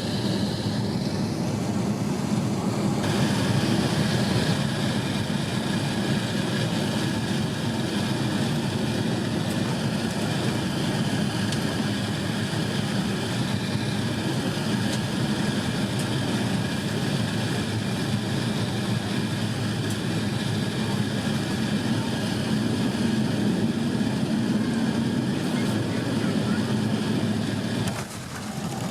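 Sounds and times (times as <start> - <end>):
jet engine and airflow noise: 0.0 - 28.9.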